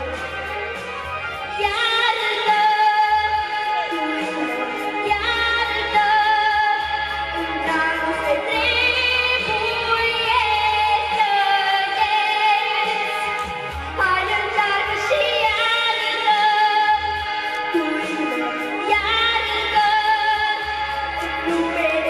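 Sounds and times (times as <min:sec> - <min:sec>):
backing track with bass: 0:00.0 - 0:22.0
girl singing into microphone: 0:01.6 - 0:22.0.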